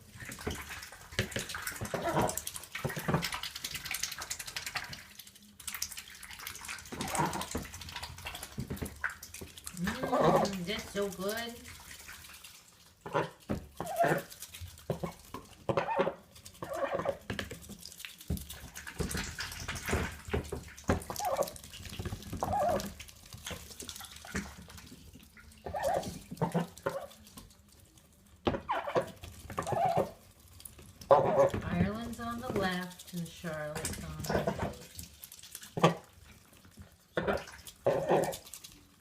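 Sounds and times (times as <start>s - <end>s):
duck bills splashing in water: 0.0s - 39.0s.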